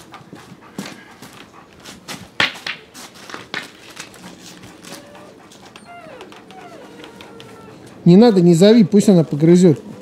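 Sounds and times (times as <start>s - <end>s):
puppy scuffling on wet paving: 0.4s - 8.4s.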